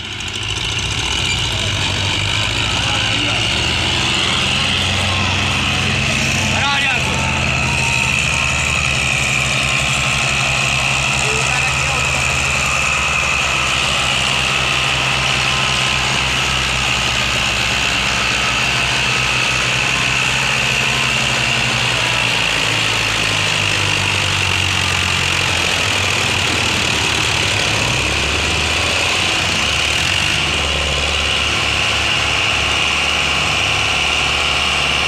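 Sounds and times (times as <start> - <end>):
diesel tractor engine under load: 0.0 - 35.0.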